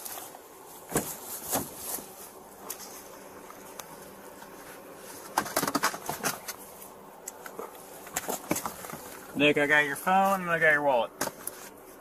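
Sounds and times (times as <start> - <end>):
faint steady hiss: 0.0 - 12.0
handling and movement noise: 0.0 - 12.0.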